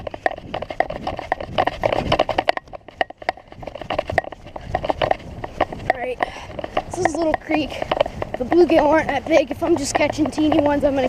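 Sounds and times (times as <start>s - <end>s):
footsteps walking: 0.0s - 11.0s.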